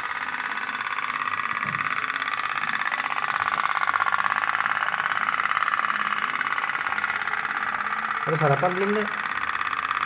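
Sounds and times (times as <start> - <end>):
toy steam boat putt-putt: 0.0 - 10.0.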